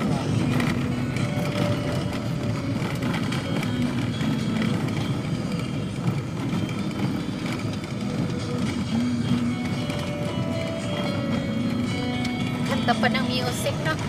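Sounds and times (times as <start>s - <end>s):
off-road vehicle engine: 0.0s - 14.0s.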